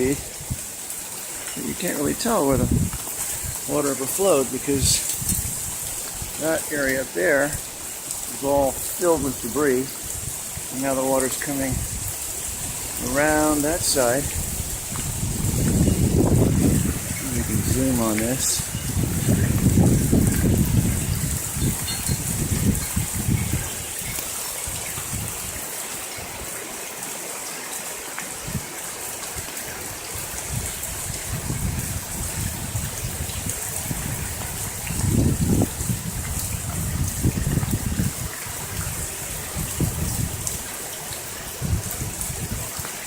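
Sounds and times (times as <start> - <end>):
rainwater runoff flowing: 0.0 - 43.0.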